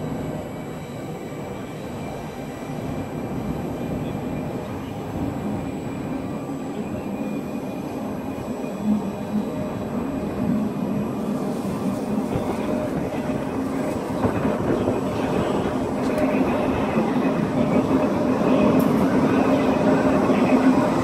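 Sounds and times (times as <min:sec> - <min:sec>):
low rumble of trains: 0:00.0 - 0:21.0.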